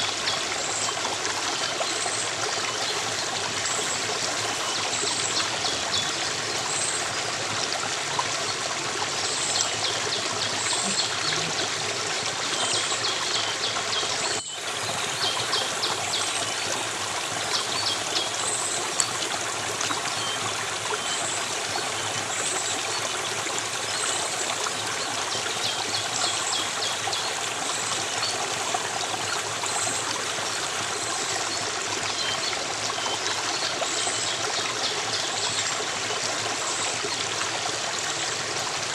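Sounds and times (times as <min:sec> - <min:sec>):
stream of water trickling: 0:00.0 - 0:38.9.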